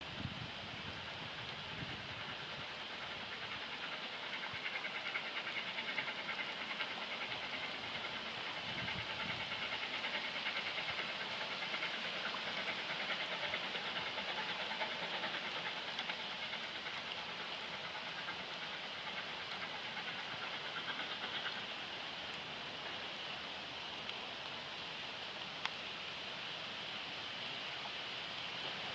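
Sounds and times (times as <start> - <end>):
rail noise: 0.0 - 28.9
rush of steam: 0.0 - 28.9
steam locomotive passing: 0.2 - 25.5, 26.3 - 28.9.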